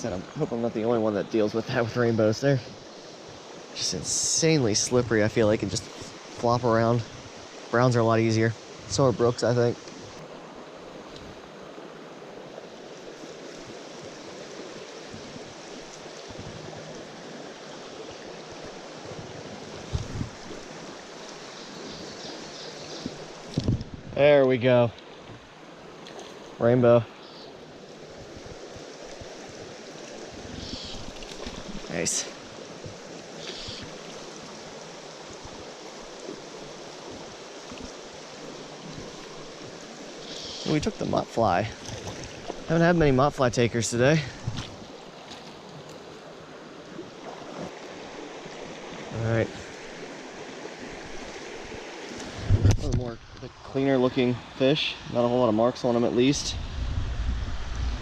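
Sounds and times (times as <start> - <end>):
mountain stream running: 0.0 - 58.0.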